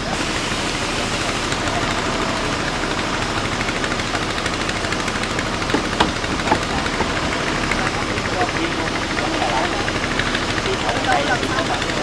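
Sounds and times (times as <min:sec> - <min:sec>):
engine clattering: 0:00.0 - 0:12.0
engine knocks: 0:00.0 - 0:12.0.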